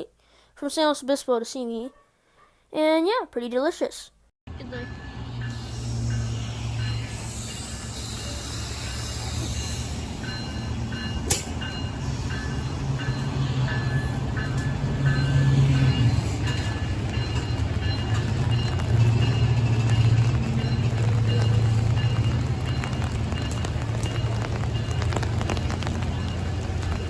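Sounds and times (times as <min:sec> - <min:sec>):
train rumble from inside car: 0:04.5 - 0:27.0.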